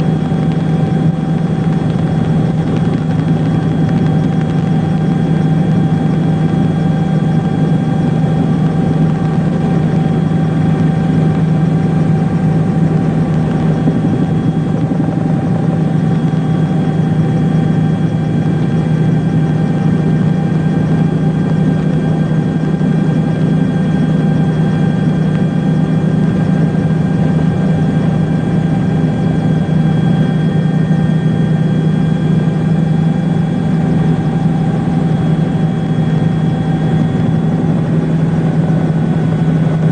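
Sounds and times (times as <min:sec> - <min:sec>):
steady engine drone: 0:00.0 - 0:39.9.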